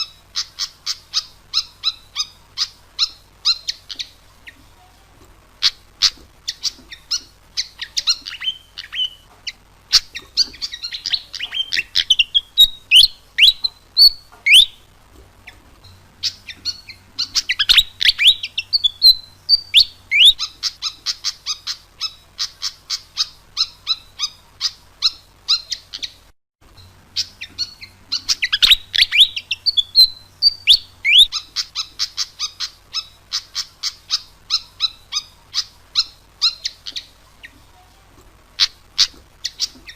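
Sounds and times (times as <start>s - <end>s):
bird chirping and twittering: 0.0s - 37.8s, 38.5s - 39.9s.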